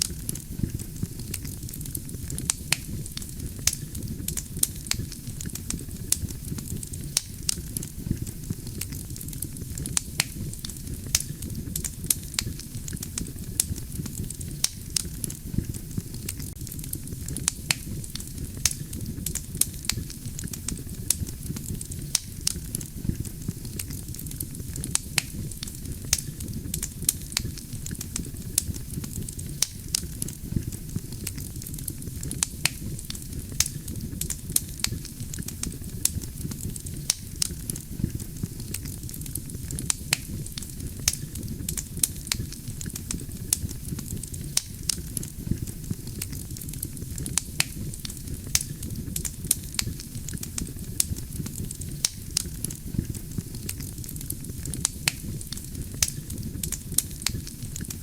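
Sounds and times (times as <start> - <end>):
logs crackling and popping: 0.0 - 58.0
low rush of flames: 0.0 - 58.0.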